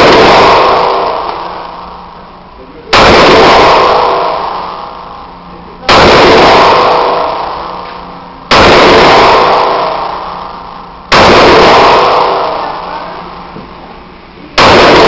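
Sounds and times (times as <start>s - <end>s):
pistol shots: 0.0s - 2.2s, 2.9s - 13.5s, 14.6s - 15.0s.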